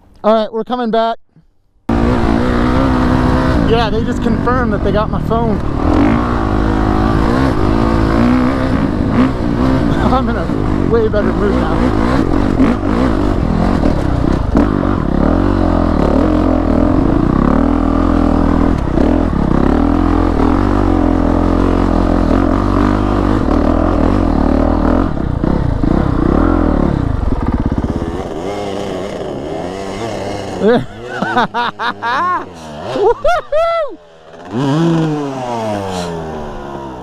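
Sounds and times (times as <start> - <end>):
dirt bike engine revving: 1.9 - 37.0.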